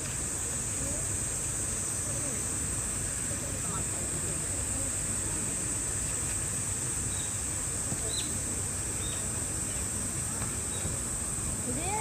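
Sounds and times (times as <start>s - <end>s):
insects droning: 0.0s - 12.0s
low outdoor murmur: 0.0s - 12.0s.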